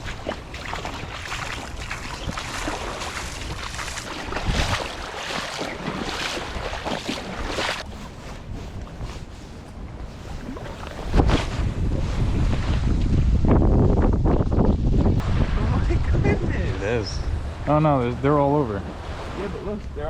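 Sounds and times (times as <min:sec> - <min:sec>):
surf breaking: 0:00.0 - 0:13.5, 0:15.2 - 0:20.0
wind buffeting microphone: 0:00.0 - 0:20.0.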